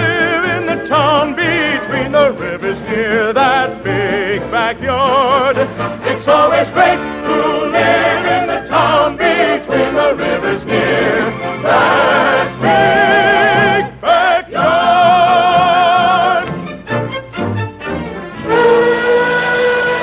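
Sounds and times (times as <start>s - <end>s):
operatic singing: 0.0s - 17.2s, 18.1s - 20.0s
orchestral accompaniment: 0.0s - 20.0s.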